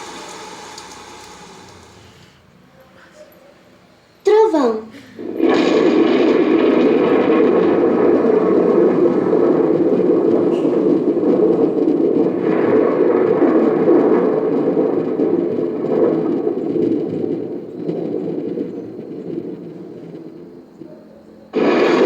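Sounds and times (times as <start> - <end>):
thunder rumbling: 0.0 - 3.0, 3.7 - 22.0.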